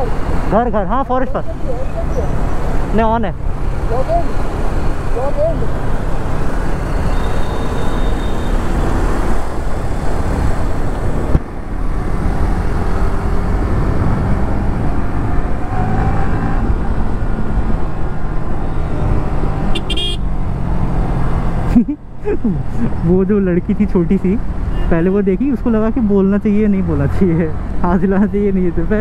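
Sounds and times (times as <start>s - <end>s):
surrounding traffic: 0.0s - 29.0s
wind and road noise: 0.0s - 29.0s.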